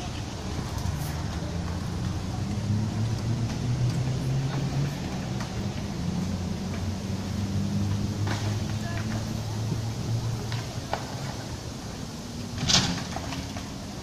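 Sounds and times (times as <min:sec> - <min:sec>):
skateboard clacks: 0:00.0 - 0:07.0, 0:07.9 - 0:11.8, 0:12.6 - 0:14.0
engine humming: 0:00.0 - 0:14.0.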